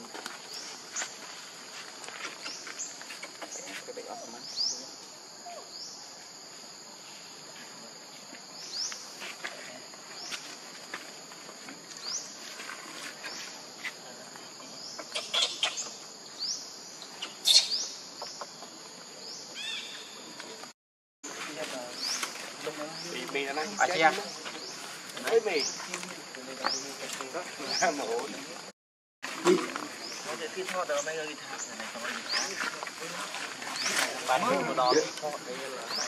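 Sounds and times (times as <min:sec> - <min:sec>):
insects droning: 0:00.0 - 0:20.7, 0:21.3 - 0:36.0.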